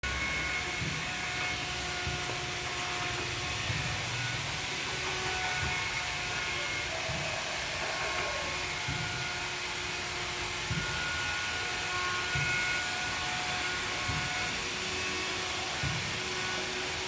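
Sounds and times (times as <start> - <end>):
power tool whirring: 0.0 - 17.0.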